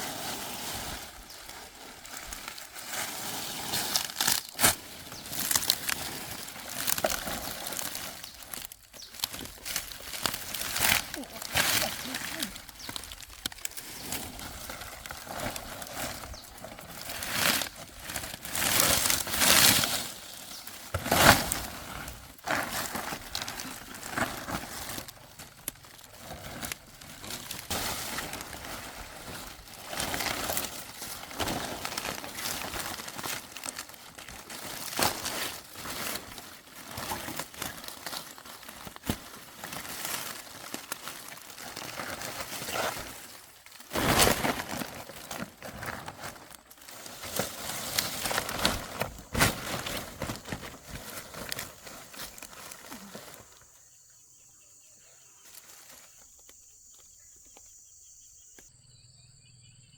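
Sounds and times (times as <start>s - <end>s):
roofing material crinkling and rustling: 0.0s - 53.6s.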